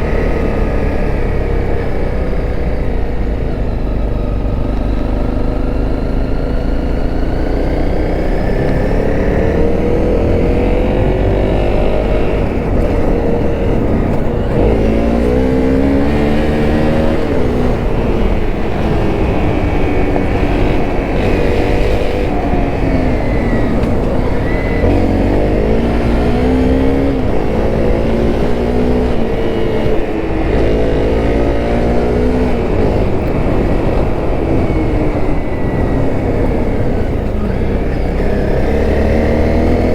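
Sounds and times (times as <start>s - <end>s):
motorcycle engine accelerating: 0.0s - 39.9s
wind and road rumble: 0.0s - 39.9s.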